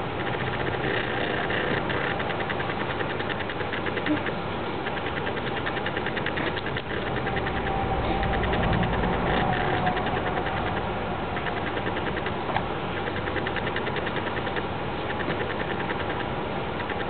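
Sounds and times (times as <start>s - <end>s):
mechanical whirr with ticking: 0.0s - 17.0s.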